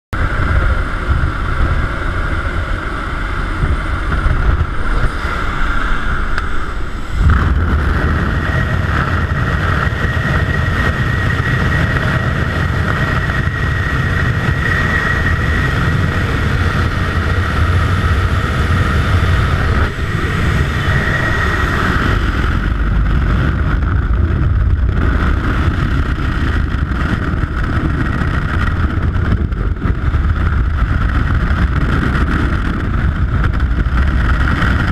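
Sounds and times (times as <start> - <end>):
aircraft engine and wind rush: 0.1 - 34.9
freefall wind rush: 0.1 - 34.9.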